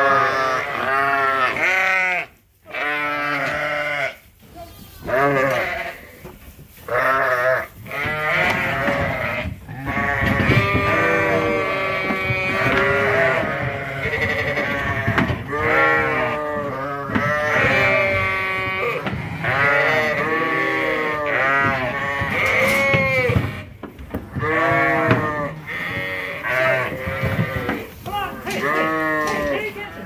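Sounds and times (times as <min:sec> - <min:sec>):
sheep bleating: 0:00.0 - 0:04.2, 0:05.0 - 0:06.2, 0:06.9 - 0:23.7, 0:24.3 - 0:30.0.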